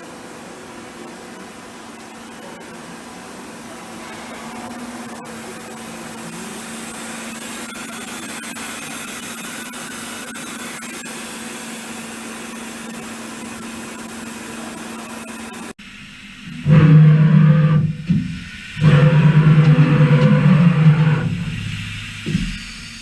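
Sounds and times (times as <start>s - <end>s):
machine hum with hiss: 0.0s - 23.0s.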